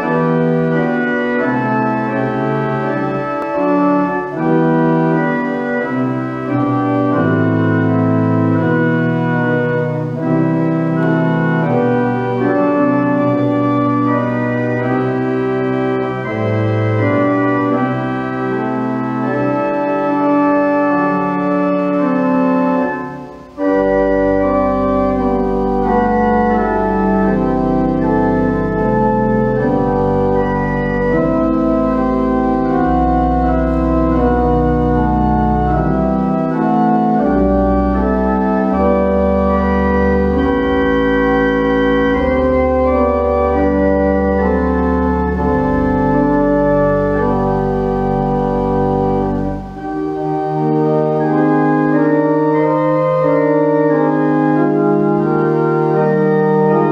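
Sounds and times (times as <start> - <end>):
pipe organ chords: 0.0 - 56.9.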